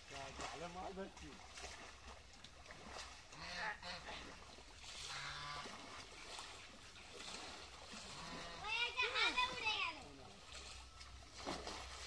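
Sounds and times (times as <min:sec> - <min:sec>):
pond water sloshing: 0:00.0 - 0:12.0.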